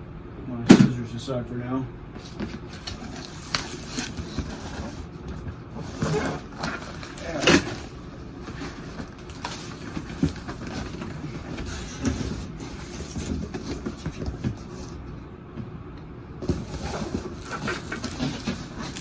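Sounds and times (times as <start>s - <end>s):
cardboard and packing rustling: 2.2s - 15.2s, 16.3s - 19.0s.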